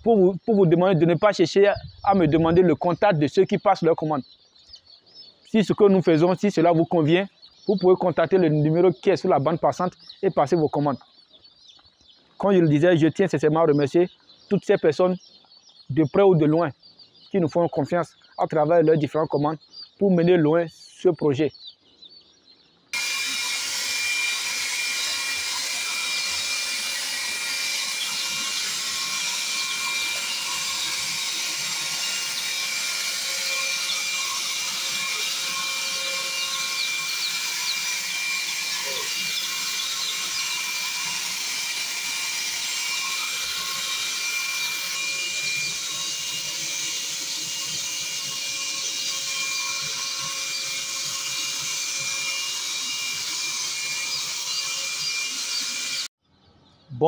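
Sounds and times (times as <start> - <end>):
chicks peeping: 0.0 - 56.9.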